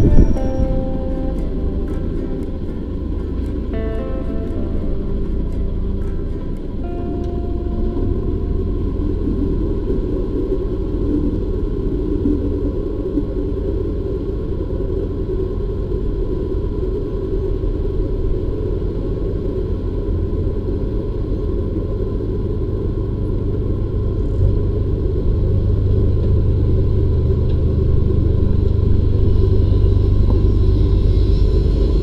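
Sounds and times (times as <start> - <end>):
boat diesel engine rumbling: 0.0 - 32.0.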